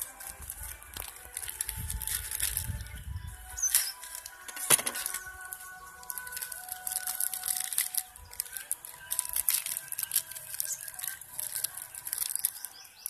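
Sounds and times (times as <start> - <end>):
plastic packet crinkling: 0.0 - 13.0.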